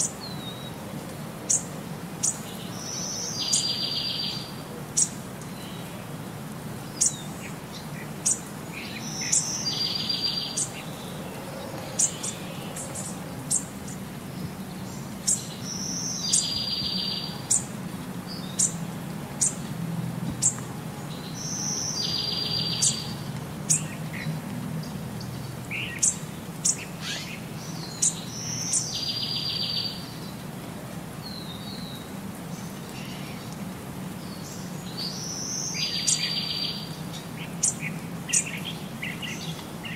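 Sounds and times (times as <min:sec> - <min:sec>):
birds chirping: 0:01.4 - 0:30.5, 0:31.2 - 0:39.9.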